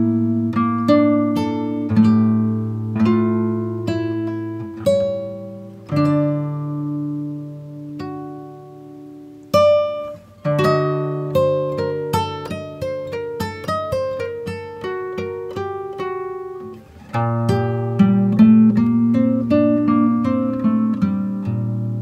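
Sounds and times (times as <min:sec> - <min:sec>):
plucked acoustic guitar: 0:00.0 - 0:22.0.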